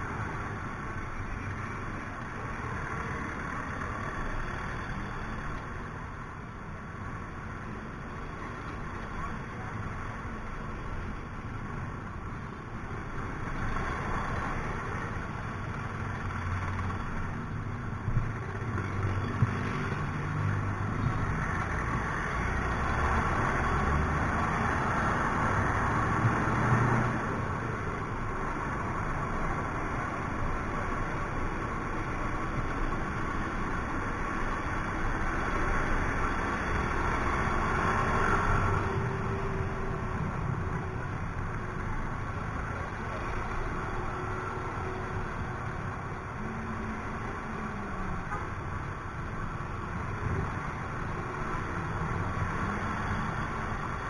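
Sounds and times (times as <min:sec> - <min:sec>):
wind and road rush: 0:00.0 - 0:54.0.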